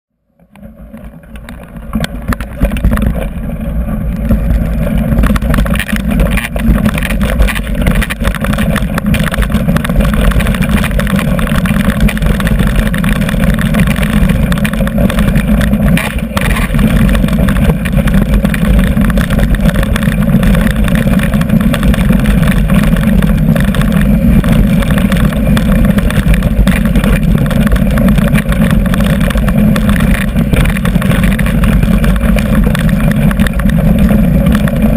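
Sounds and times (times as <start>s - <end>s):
bike tyres rattling on rocky gravel: 0.4s - 34.9s.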